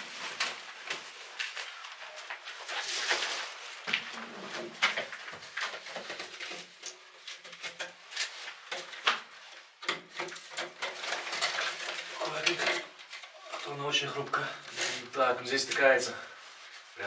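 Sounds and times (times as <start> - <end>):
metal duct crinkling and rattling: 0.0 - 17.0.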